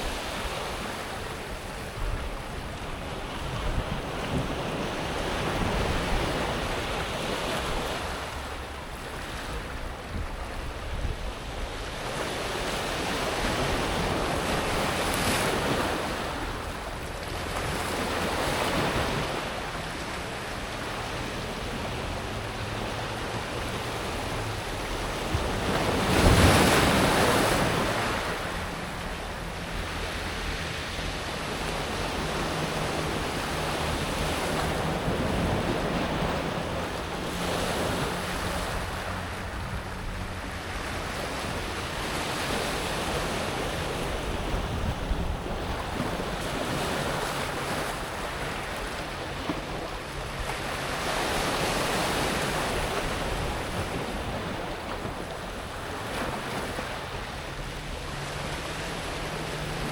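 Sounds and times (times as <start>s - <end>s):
waves washing over pebbles: 0.0s - 59.9s.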